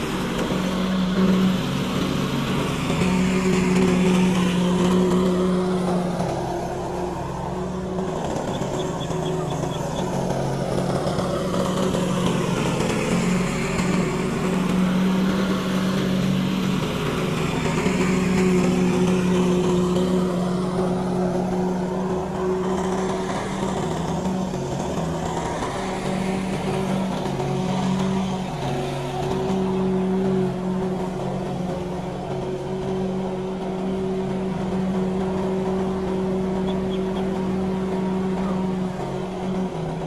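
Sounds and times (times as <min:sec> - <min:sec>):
lawn mower engine running: 0:00.0 - 0:40.0.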